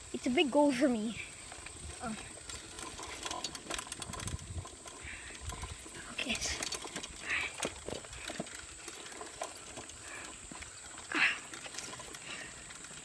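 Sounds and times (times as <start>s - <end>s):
bicycle rattling on bumpy path: 0.0s - 13.0s.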